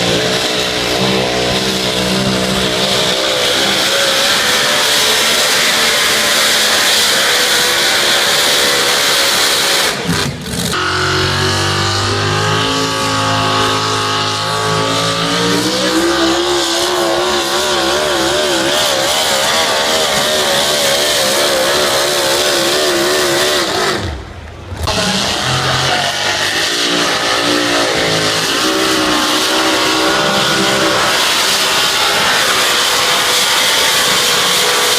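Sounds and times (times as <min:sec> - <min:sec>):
diesel tractor engine under load: 0:00.0 - 0:34.9.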